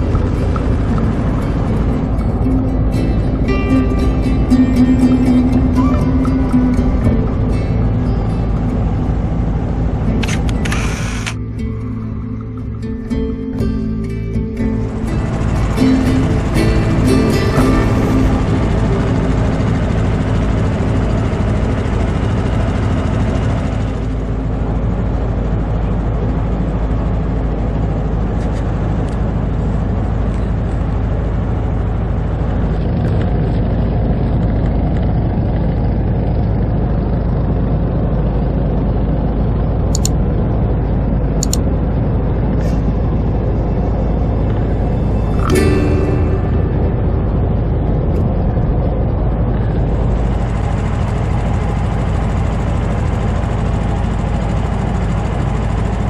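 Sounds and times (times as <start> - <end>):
small boat motor running: 0.0 - 56.0.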